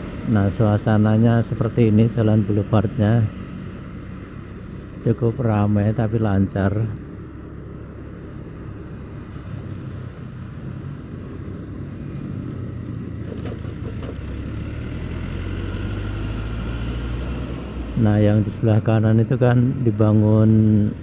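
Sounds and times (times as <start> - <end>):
vehicle engine hum and road noise: 0.0 - 21.0.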